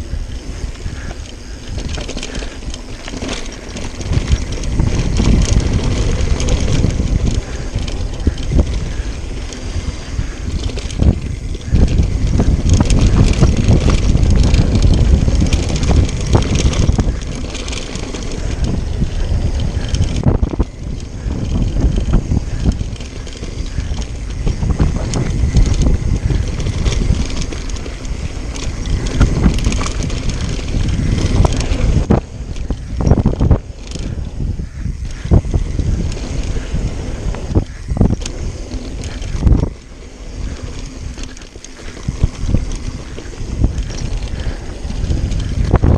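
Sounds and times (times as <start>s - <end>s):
bike clattering over bumps: 0.0s - 45.9s
tyres rumbling on dirt: 0.0s - 45.9s
wind rushing over microphone: 0.0s - 45.9s.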